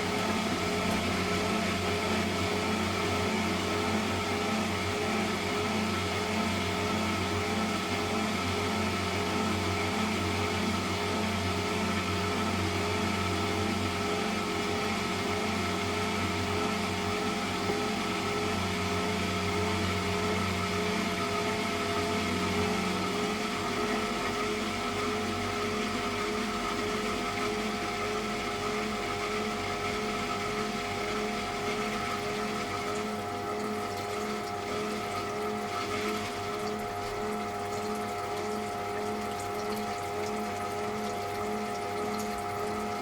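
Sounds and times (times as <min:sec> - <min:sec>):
washing machine motor hum: 0:00.0 - 0:43.0.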